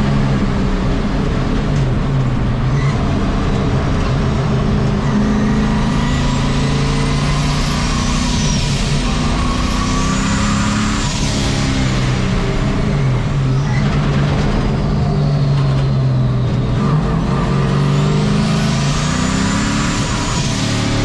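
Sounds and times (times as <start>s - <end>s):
high turbo whine: 0.0s - 21.0s
race truck engine revving: 0.0s - 21.0s.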